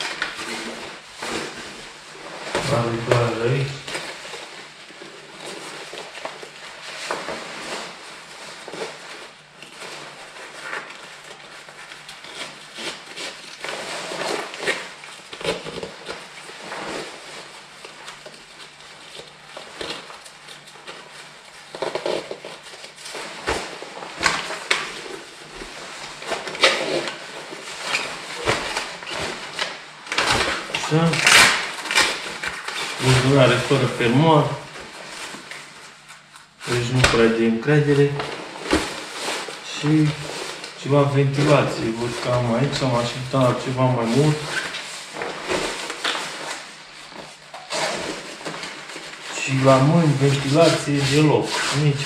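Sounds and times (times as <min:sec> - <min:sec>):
jacket rustling and crinkling: 0:00.0 - 0:52.0.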